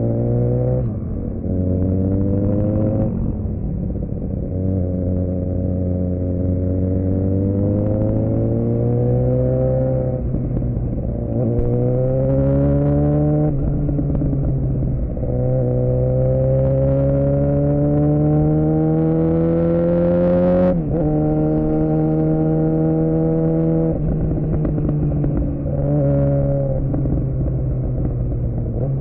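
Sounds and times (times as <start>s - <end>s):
motorcycle engine revving through gears: 0.0s - 29.0s.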